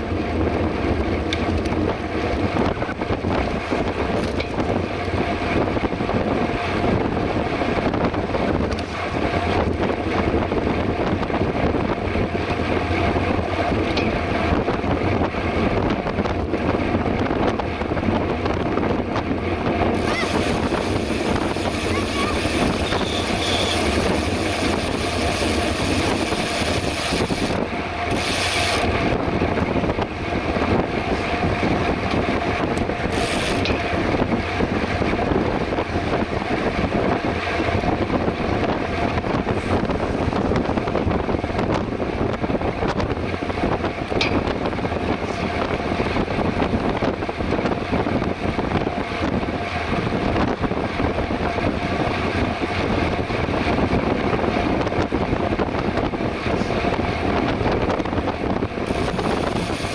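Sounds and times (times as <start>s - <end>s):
bike tyre and drivetrain noise: 0.0s - 59.9s
wind on microphone: 0.0s - 59.9s.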